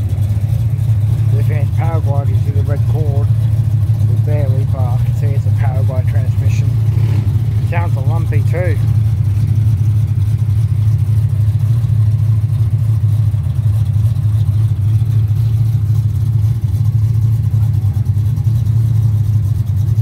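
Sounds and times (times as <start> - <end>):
car engine idling with lumpy beat: 0.0 - 20.0.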